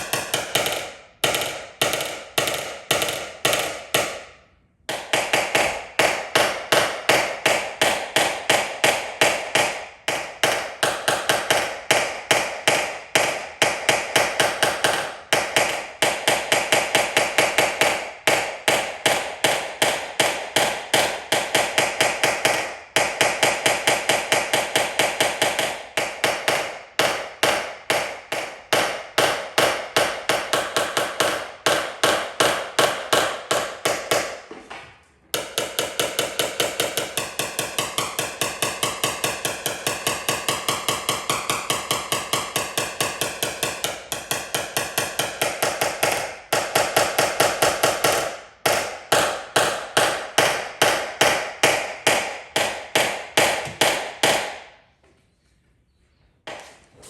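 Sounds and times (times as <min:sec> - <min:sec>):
hammer tapping on sheet metal: 0:00.0 - 0:54.8, 0:56.5 - 0:56.8.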